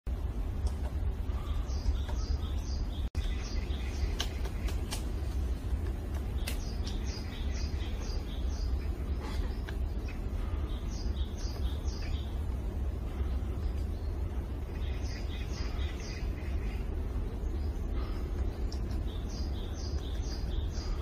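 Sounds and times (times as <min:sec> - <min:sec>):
low rumble: 0:00.1 - 0:21.0
bird chirping: 0:00.6 - 0:21.0.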